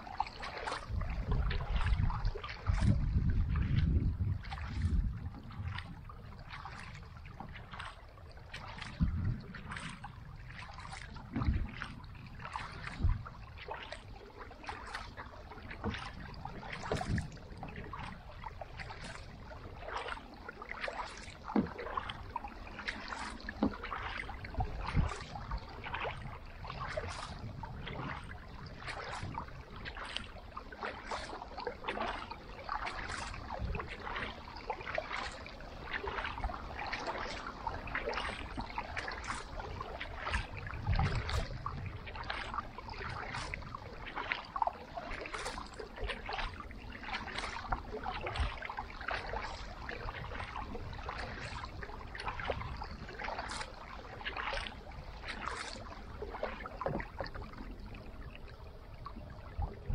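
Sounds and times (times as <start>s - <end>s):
paddle splashing in water: 0.0s - 59.9s.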